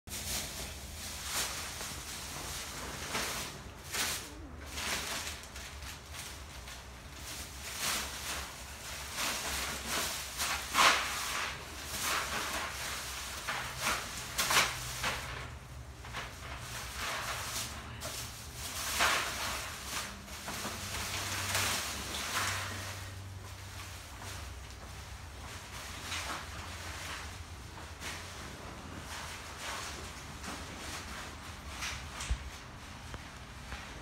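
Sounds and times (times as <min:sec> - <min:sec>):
plastic bags rustling and crinkling: 0:00.1 - 0:34.0.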